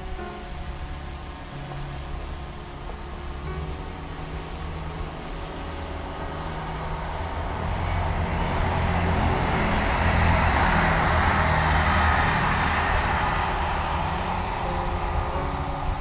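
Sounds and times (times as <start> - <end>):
passenger train rumbling: 0.0 - 16.0.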